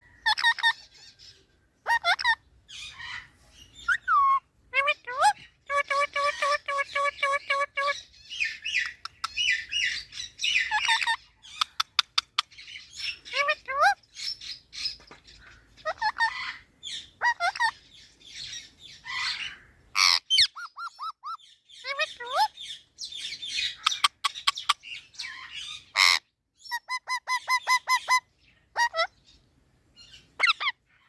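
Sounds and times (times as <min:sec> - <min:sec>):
parrot chirps whistles and squawks: 0:00.2 - 0:15.0, 0:15.8 - 0:17.8, 0:18.4 - 0:29.4, 0:30.0 - 0:30.8.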